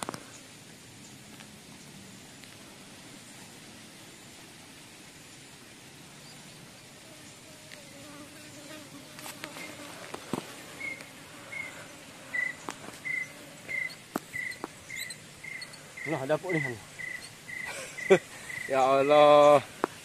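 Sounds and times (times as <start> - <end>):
flying insect droning: 0.0 - 20.0.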